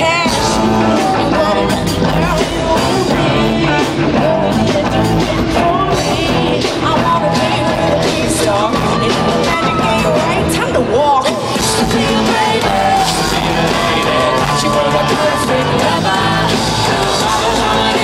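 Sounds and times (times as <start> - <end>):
live pop band playing: 0.0 - 18.0
woman singing: 0.0 - 18.0.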